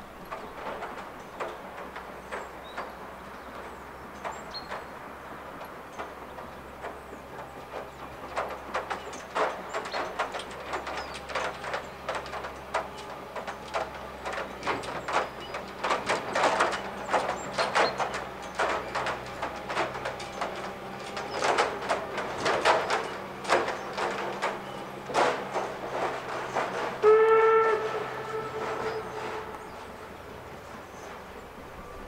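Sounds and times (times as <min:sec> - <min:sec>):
distant steam locomotive chuffing: 0:00.0 - 0:32.0.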